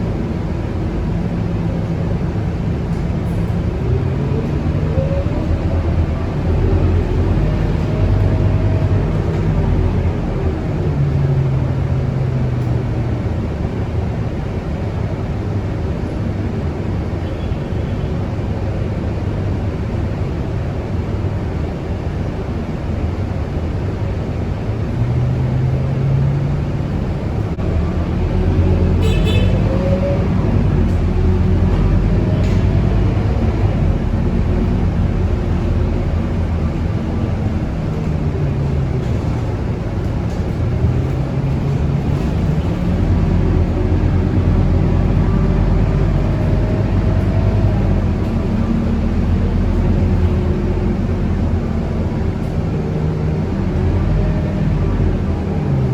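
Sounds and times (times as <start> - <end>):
bus diesel engine: 0.0 - 55.9.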